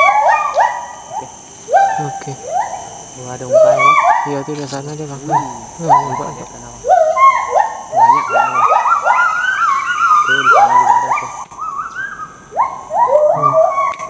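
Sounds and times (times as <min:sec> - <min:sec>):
gibbons whooping in chorus: 0:00.0 - 0:02.9, 0:05.2 - 0:14.0.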